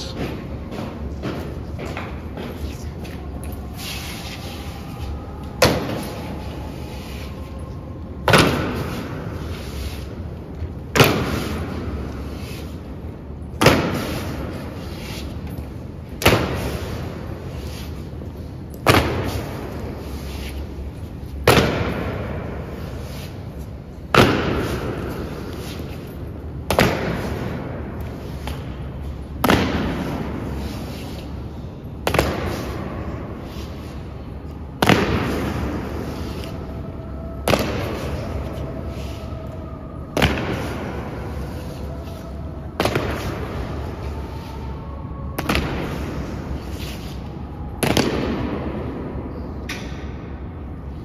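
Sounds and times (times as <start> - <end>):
boots stamping in echoing hall: 0.0 - 3.4, 4.0 - 50.4.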